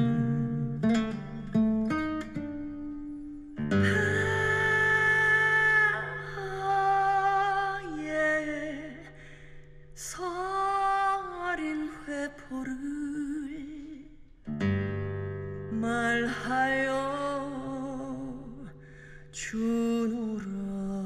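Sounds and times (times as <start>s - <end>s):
acoustic guitar: 0.0s - 21.0s
person singing long wavering notes: 2.3s - 14.1s, 15.7s - 21.0s.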